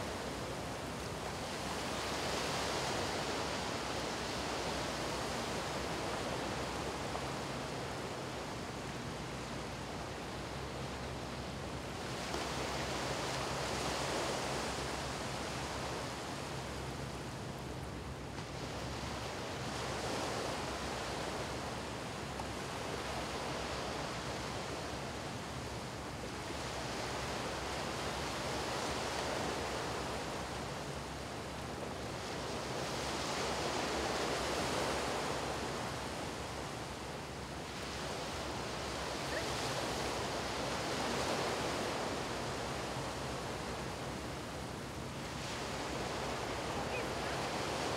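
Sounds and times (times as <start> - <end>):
waves washing up a beach: 0.0 - 47.9.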